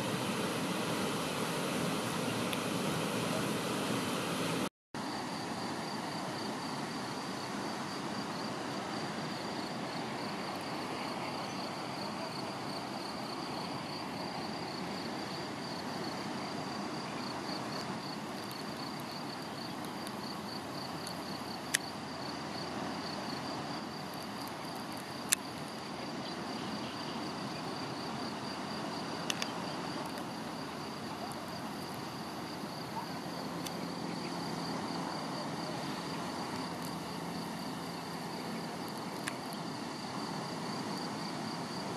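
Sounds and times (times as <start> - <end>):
outdoor hiss: 0.0 - 41.9.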